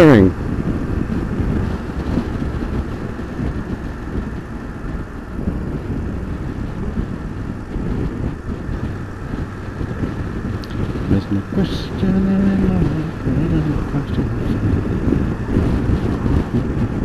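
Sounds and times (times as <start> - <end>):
wind buffeting microphone: 0.0 - 17.0
motorcycle engine running: 0.3 - 17.0.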